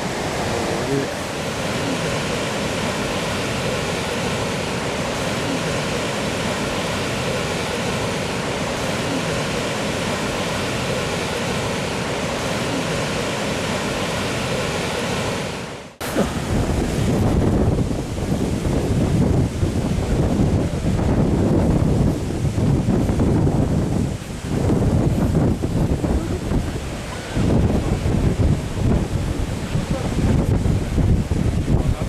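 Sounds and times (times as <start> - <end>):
waves breaking: 0.0 - 32.0
wind buffeting microphone: 0.0 - 32.0.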